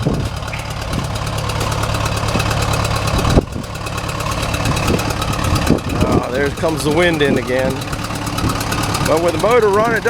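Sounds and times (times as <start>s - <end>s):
bulldozer engine idling: 0.0s - 10.0s.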